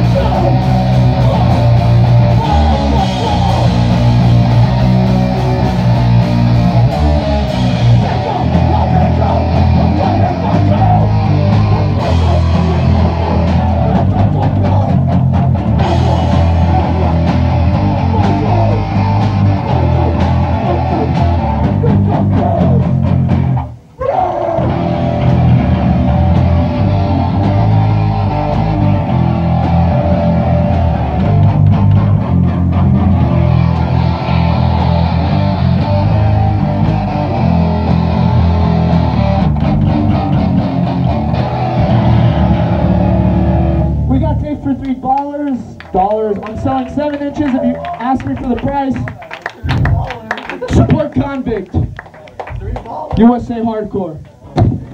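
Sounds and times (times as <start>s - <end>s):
punk band playing live: 0.0s - 53.2s.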